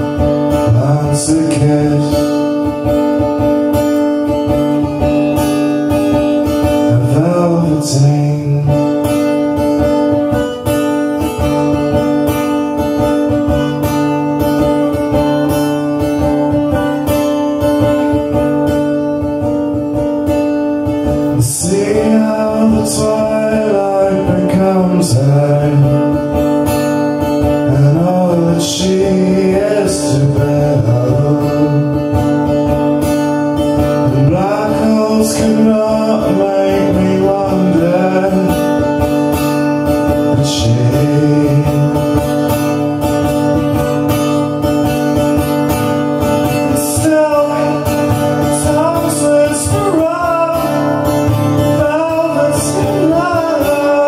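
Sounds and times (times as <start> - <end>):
acoustic guitar strummed: 0.0 - 54.0
man singing: 0.0 - 54.0.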